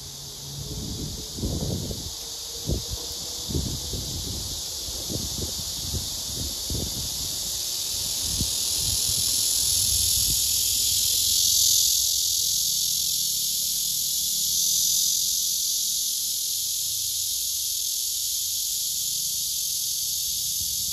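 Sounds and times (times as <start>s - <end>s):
cicadas buzzing: 0.0s - 20.9s.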